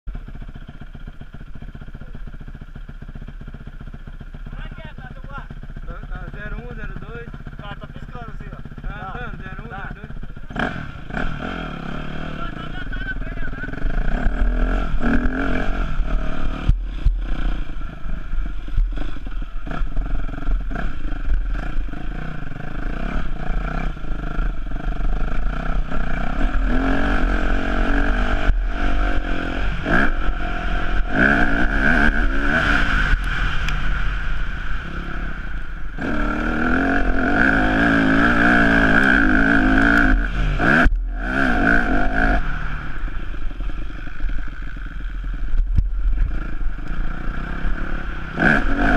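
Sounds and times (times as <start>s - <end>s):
motocross engine revving: 0.1s - 48.9s.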